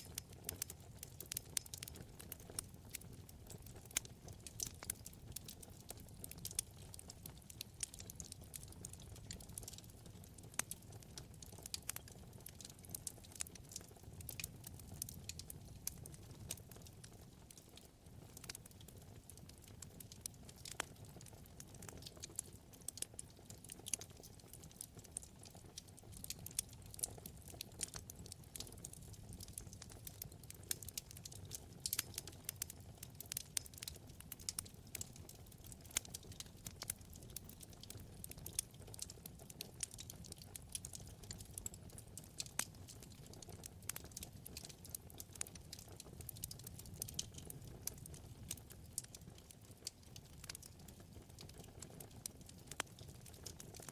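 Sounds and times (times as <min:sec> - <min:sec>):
low rumble of flame: 0:00.0 - 0:53.9
wood fire crackling: 0:00.0 - 0:53.9.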